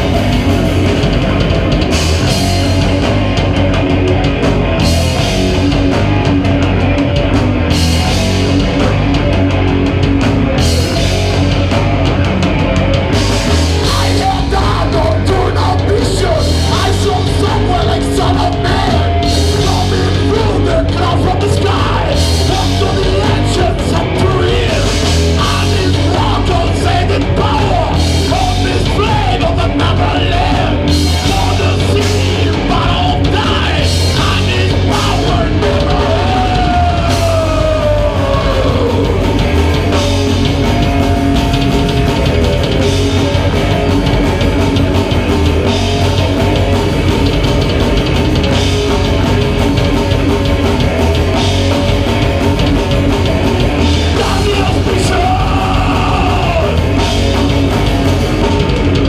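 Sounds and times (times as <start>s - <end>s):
heavy metal band playing: 0.0s - 59.0s
yelled vocals: 0.0s - 59.0s.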